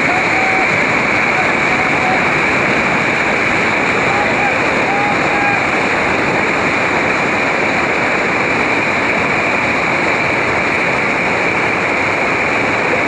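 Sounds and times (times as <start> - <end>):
river rapid rushing: 0.0 - 13.0.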